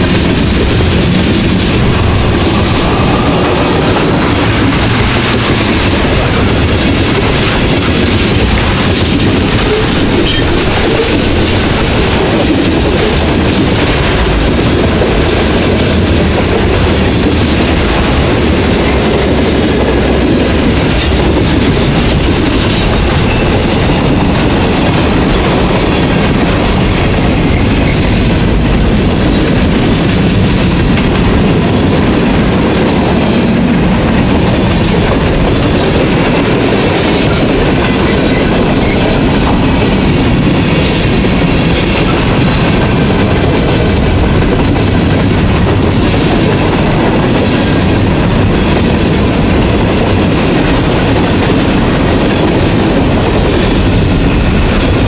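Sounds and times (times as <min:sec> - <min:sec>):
steel wheels rumbling on rail: 0:00.0 - 0:55.0
wheels clickety-clack: 0:00.0 - 0:55.0.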